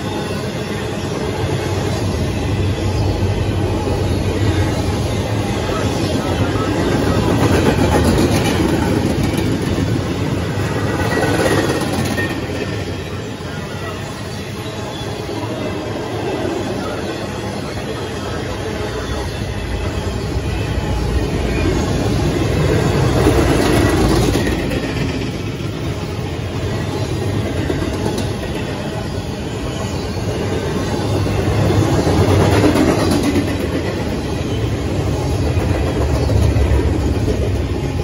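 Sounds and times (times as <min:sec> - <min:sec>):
freight train rolling past: 0:00.0 - 0:38.0
wheels clickety-clack on rails: 0:00.0 - 0:38.0.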